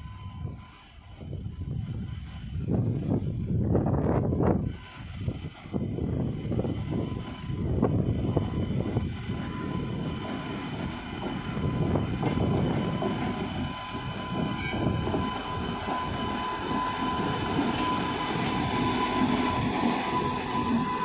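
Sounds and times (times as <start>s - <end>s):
locomotive high whine: 0.0s - 21.0s
train wheels rumbling on rail: 0.0s - 21.0s.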